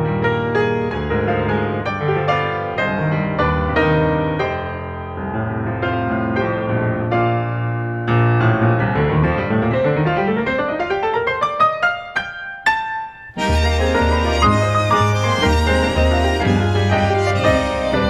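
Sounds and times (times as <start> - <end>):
tango piano playing: 0.0 - 18.0.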